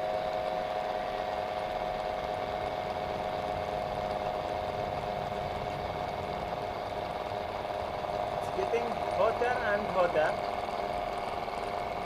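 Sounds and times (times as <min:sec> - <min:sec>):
electric motor humming and whining: 0:00.0 - 0:12.0.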